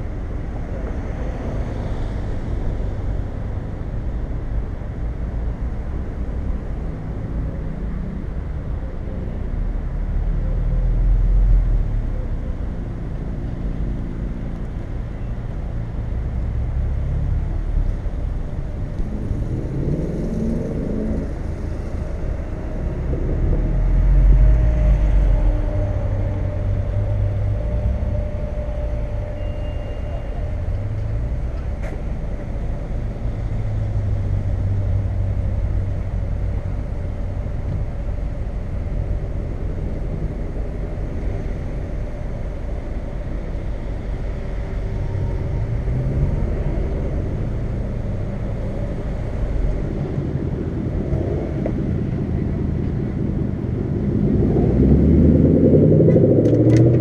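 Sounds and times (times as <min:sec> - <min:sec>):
car engine low rumble: 0:00.0 - 0:57.0.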